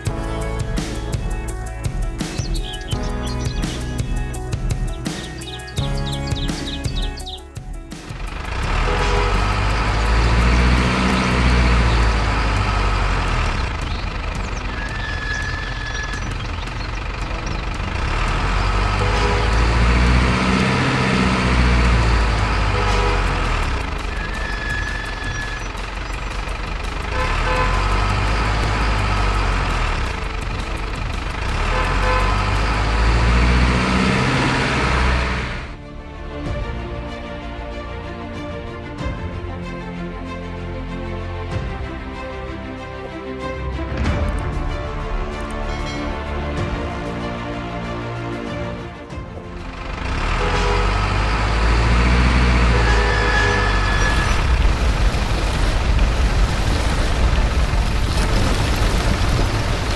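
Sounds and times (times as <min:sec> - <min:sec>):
truck engine rumbling: 0:00.0 - 0:59.9.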